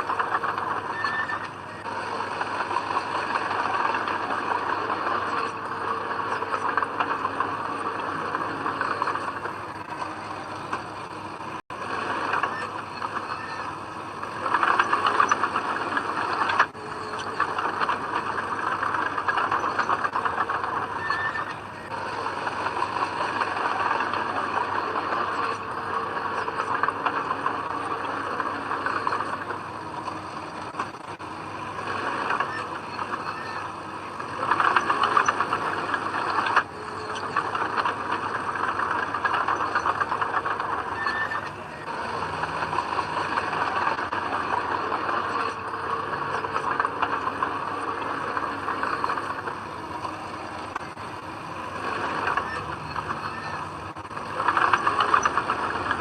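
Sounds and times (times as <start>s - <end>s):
bulldozer engine running: 0.0s - 56.0s
bulldozer tracks clattering: 0.0s - 56.0s.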